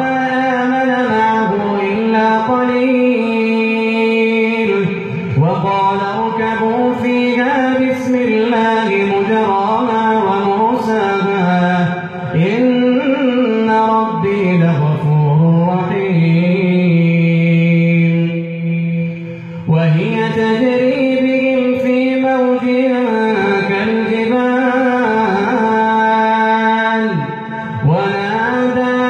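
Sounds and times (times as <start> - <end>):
man chanting into a microphone: 0.0 - 29.0.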